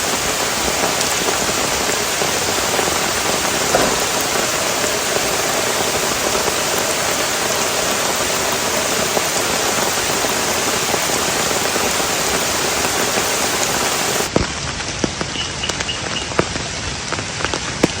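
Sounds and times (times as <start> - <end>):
heavy rain falling: 0.0 - 18.0
raindrops striking close by: 0.0 - 18.0.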